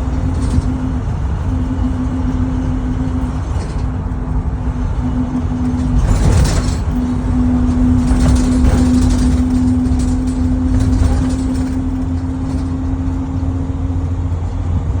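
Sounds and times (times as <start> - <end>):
bus axle whining: 0.0 - 15.0
drivetrain and road rumble: 0.0 - 15.0.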